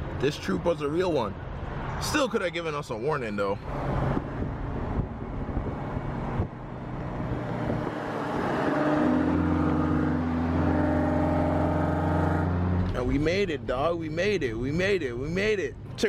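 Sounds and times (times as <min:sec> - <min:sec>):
car engine: 0:00.0 - 0:16.0
road noise: 0:00.0 - 0:16.0.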